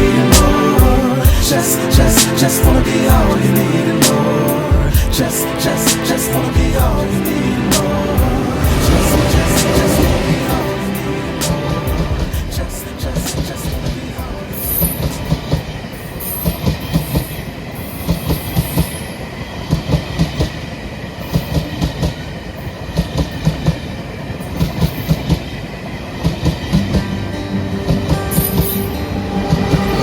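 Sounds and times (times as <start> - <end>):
railway cars rumbling: 0.0 - 30.0.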